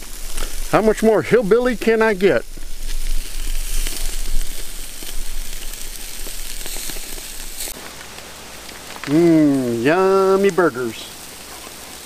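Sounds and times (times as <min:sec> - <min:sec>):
patties sizzling on a grill: 0:00.0 - 0:12.0.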